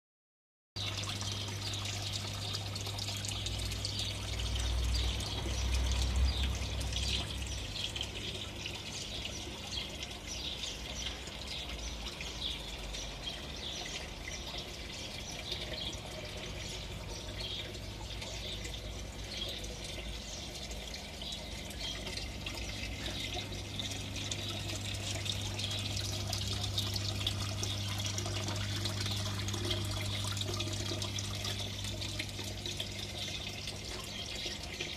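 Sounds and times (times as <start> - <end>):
pump humming: 0.8 - 34.9
water trickling and splashing: 0.8 - 34.9.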